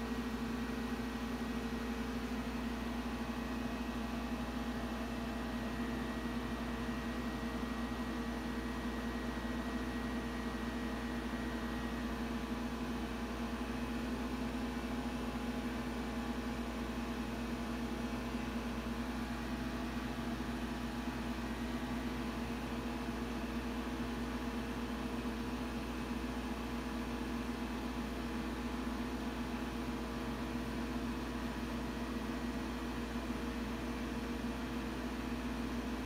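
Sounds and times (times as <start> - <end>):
oscilloscope electrical hum and hiss: 0.0 - 36.0.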